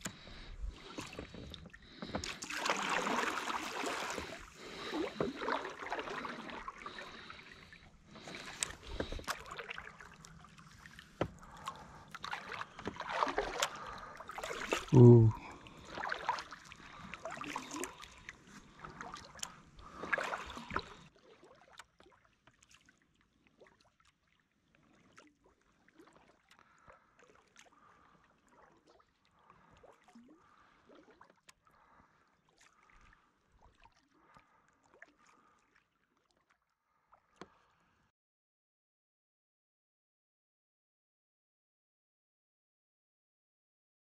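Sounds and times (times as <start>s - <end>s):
water dripping and lapping: 0.0s - 38.0s
water splashing around kayak: 0.0s - 38.0s.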